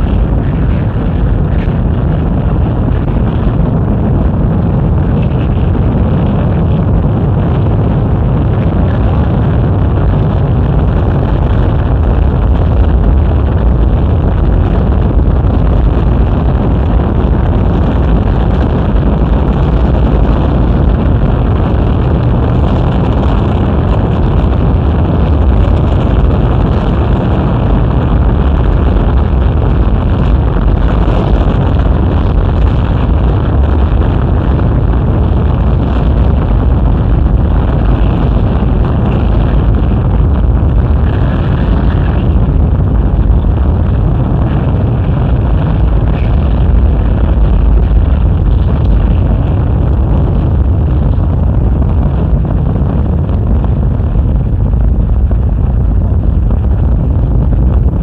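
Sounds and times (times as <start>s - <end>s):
rocket engines rumbling: 0.0s - 58.0s.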